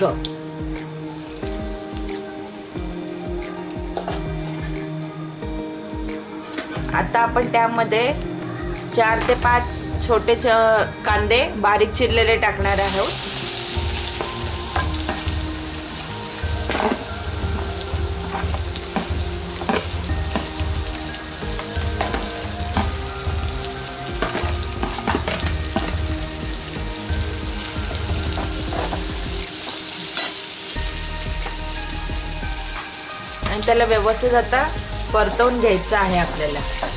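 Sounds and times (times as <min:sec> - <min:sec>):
onions sizzling in oil: 0:00.0 - 0:06.6, 0:12.6 - 0:36.9.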